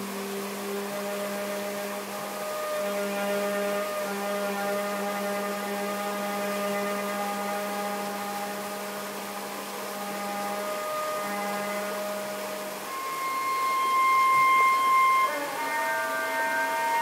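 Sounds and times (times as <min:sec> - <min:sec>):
rocky stream rushing: 0:00.0 - 0:17.0
saxophone long low note: 0:00.0 - 0:17.0.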